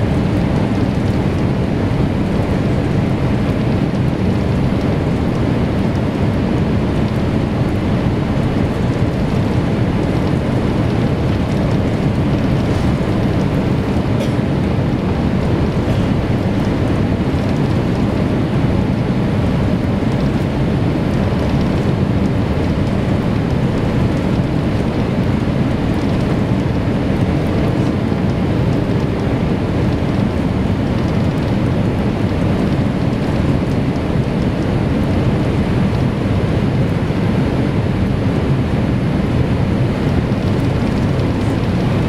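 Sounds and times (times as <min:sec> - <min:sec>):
aircraft cabin engine rumble: 0:00.0 - 0:42.0.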